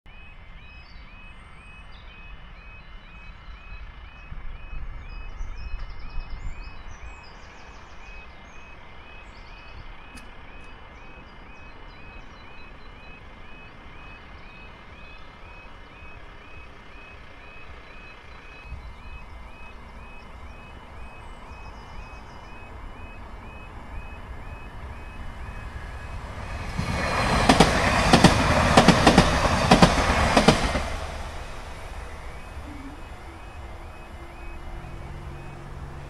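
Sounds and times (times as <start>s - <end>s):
level crossing alarm warble: 0.1s - 5.4s, 8.0s - 36.0s.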